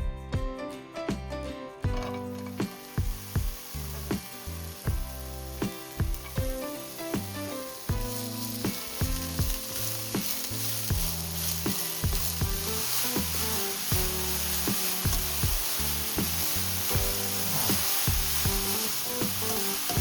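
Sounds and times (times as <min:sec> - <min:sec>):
peppers sizzling in pan: 0:01.8 - 0:20.0.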